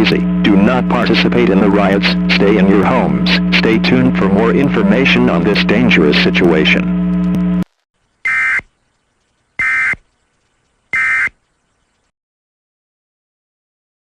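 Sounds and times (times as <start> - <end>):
buzzing data tone bursts: 0.0 - 12.1
steady hum: 0.0 - 12.1.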